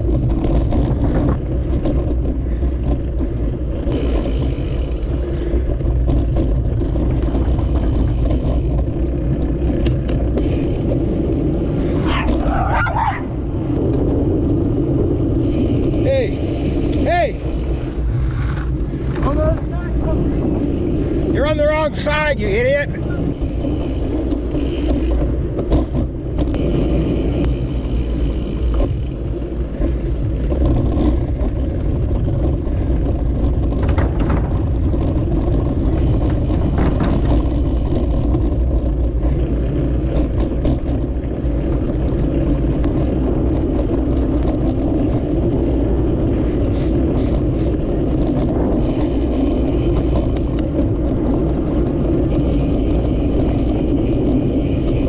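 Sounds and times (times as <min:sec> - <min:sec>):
bicycle road and wind noise: 0:00.0 - 0:55.0
vehicle traffic: 0:00.0 - 0:55.0.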